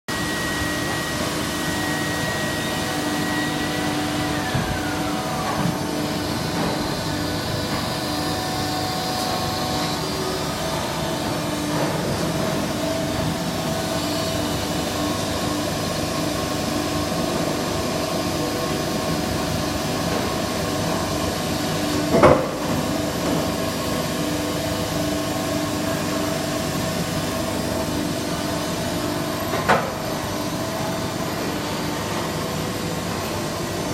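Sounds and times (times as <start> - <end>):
machine humming: 0.1 - 33.9.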